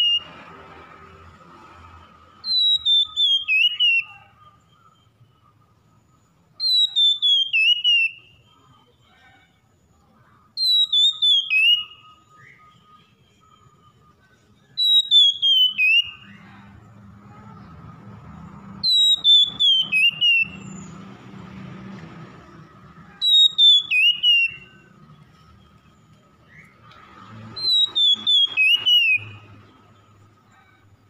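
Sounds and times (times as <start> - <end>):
magpie-robin whistled song: 0.0 - 1.2, 2.0 - 16.8, 18.8 - 21.4, 22.5 - 31.0.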